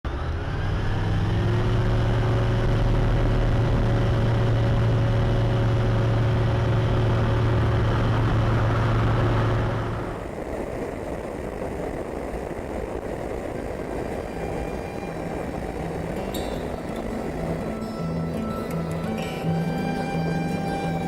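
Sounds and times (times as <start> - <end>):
ultralight aircraft engine droning: 0.1 - 21.0.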